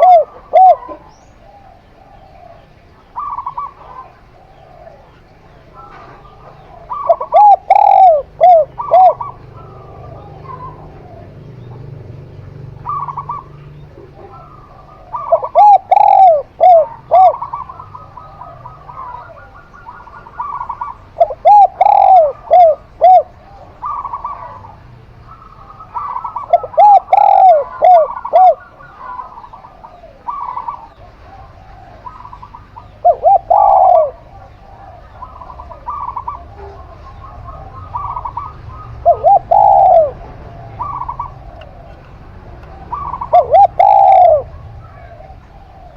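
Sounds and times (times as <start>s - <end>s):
doves cooing: 0.0s - 45.9s
faint dove coos: 0.0s - 45.9s.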